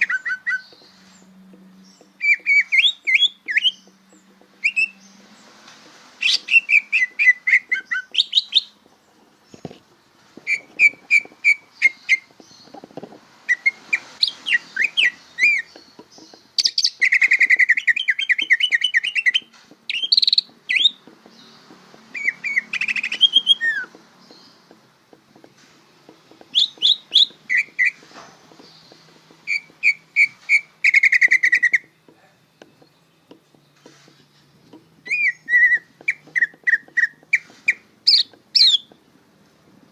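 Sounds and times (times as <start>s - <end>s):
bird singing chirps and trills: 0.0s - 5.6s, 6.2s - 39.2s.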